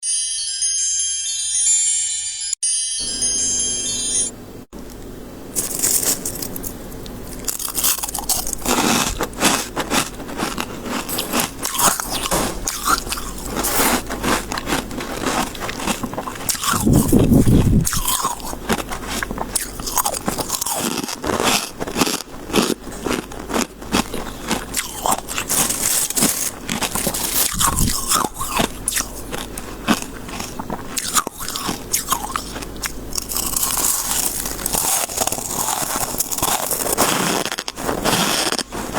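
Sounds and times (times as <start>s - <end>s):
crunching chewing of ice: 5.6s - 38.9s.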